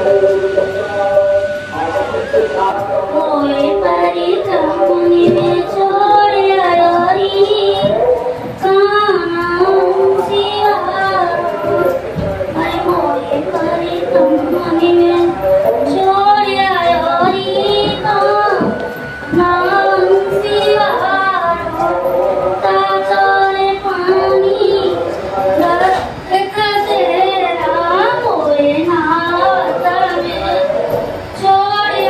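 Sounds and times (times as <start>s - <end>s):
woman singing: 3.0s - 32.0s.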